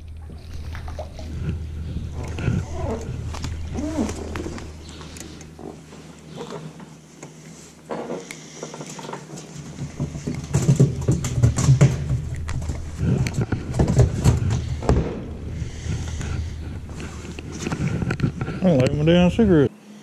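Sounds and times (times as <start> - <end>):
boat motor humming: 0.0 - 19.8
microphone handling rustling: 1.2 - 19.2.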